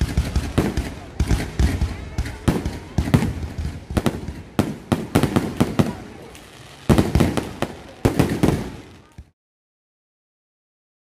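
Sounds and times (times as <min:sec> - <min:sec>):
fireworks crackling: 0:00.0 - 0:09.4
fireworks exploding: 0:00.0 - 0:09.4.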